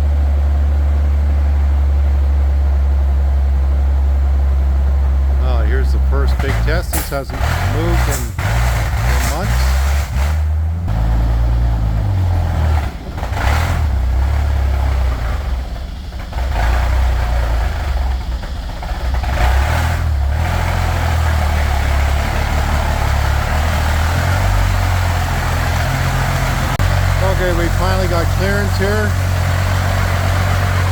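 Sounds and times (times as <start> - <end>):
engine running loud and low: 0.0 - 30.9.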